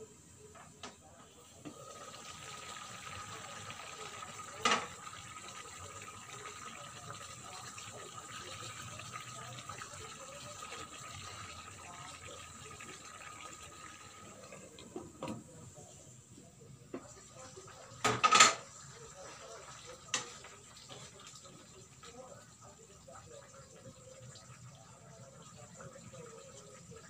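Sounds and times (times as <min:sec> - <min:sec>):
sauce simmering in a pan: 0:01.0 - 0:27.0.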